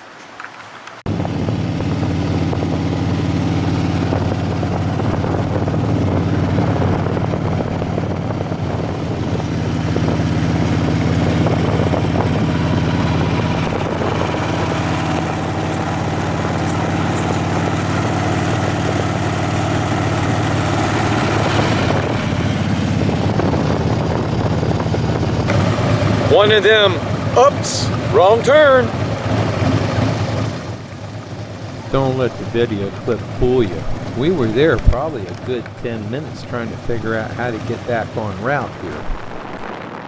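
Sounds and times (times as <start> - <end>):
broad rushing noise: 0.9 - 40.0
motorcycle engine running: 1.1 - 40.0.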